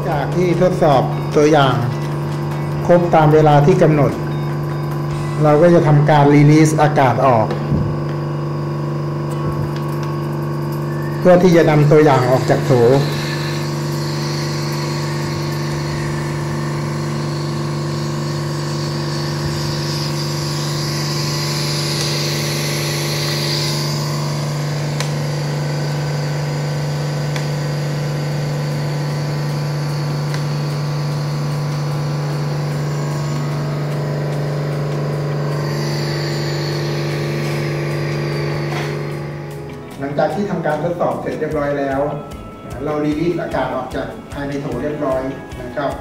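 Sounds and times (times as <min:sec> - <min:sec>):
machine low hum: 0:00.0 - 0:45.6.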